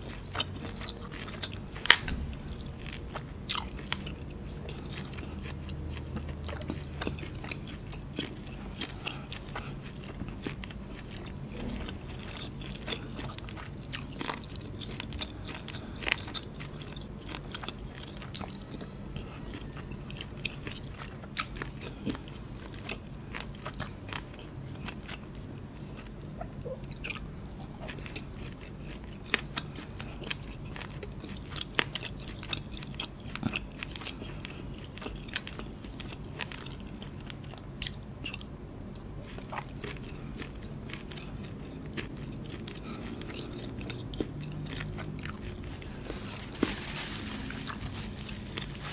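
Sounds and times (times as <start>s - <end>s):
chewing noodles: 0.0s - 48.9s.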